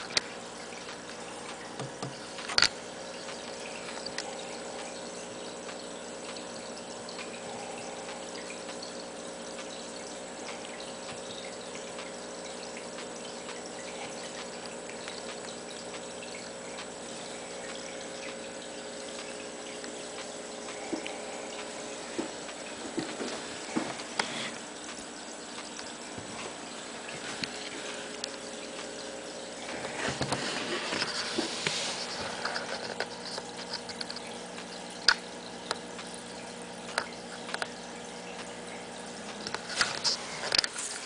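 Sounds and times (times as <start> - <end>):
faint trickling water: 0.0 - 41.0
steady hum: 0.0 - 41.0.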